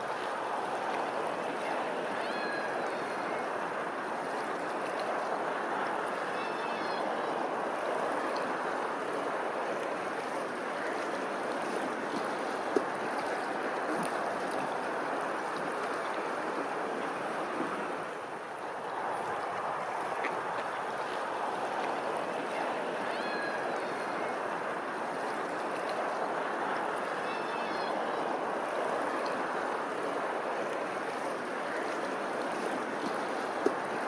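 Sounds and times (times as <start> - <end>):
running water: 0.0 - 34.0.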